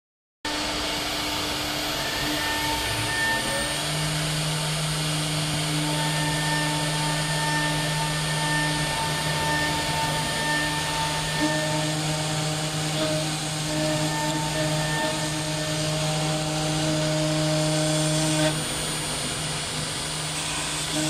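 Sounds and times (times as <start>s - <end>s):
cnc router motor whine: 0.5s - 21.0s.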